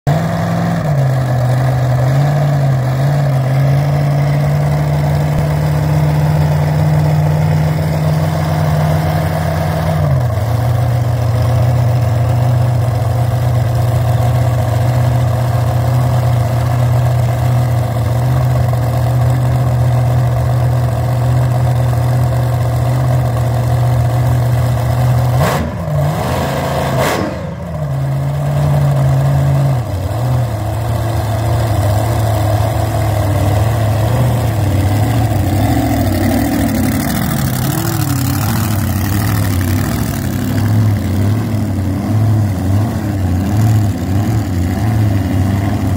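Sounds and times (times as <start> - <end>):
dragster engine idling: 0.1 - 25.9, 27.5 - 45.9
engine throttle blips: 0.1 - 45.9.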